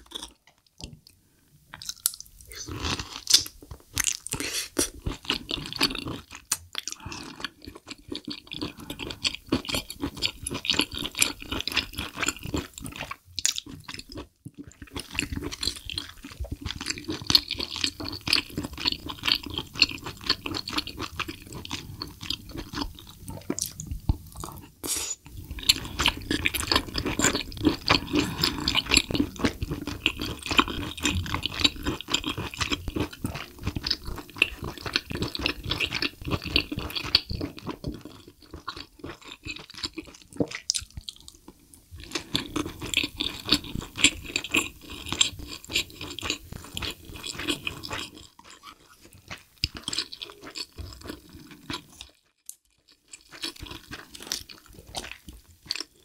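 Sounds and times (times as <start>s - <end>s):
wet chewing mouth sounds: 1.8s - 56.0s.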